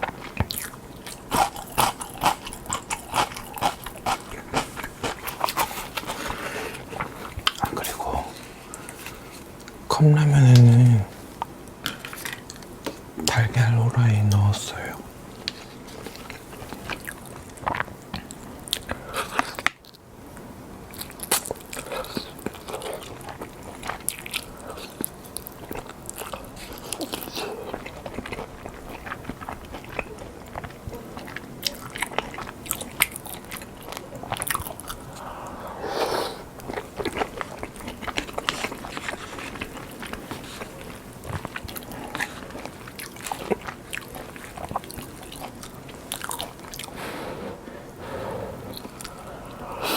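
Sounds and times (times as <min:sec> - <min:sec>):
crunching and chewing food: 0:00.0 - 0:49.9.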